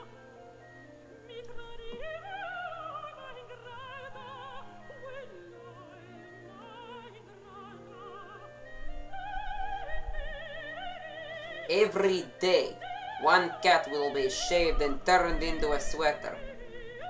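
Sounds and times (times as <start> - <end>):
classical music: 0.0 - 17.0
operatic singing with vibrato: 0.0 - 17.0.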